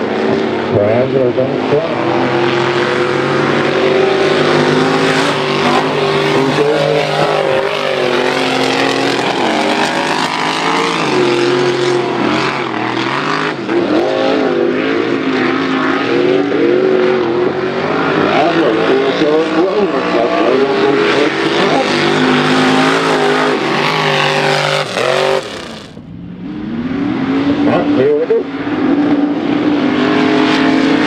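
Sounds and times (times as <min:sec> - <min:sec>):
race truck engines revving: 0:00.0 - 0:31.0.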